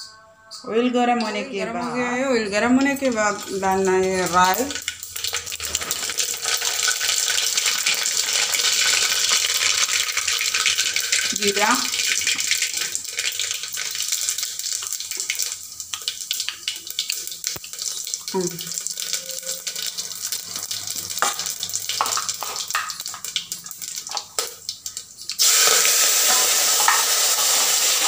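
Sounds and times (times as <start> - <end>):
seeds sizzling in hot oil: 2.8 - 28.0.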